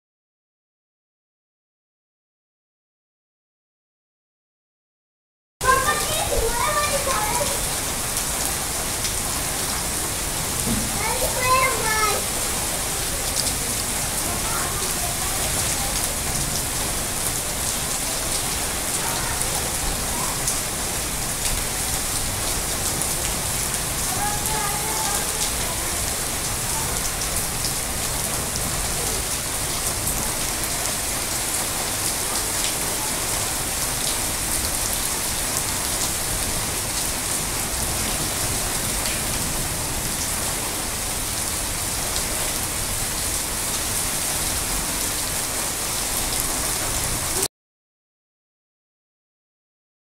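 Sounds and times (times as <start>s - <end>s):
heavy rain on leaves and ground: 5.6s - 47.5s.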